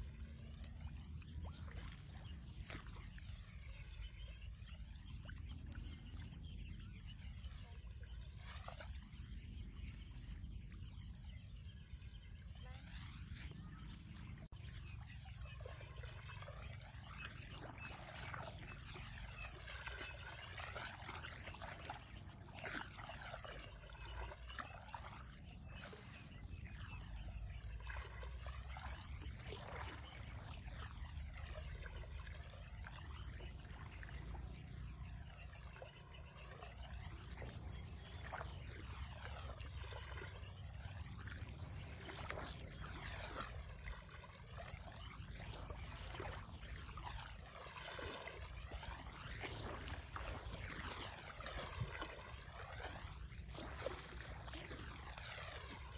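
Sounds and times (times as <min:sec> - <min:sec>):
water sloshing around wading legs: 0:00.0 - 0:55.9.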